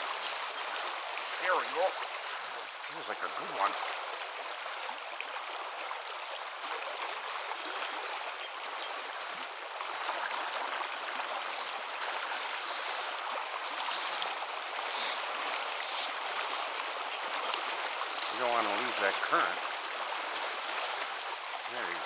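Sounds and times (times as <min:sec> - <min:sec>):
river rushing over rocks: 0:00.0 - 0:22.0.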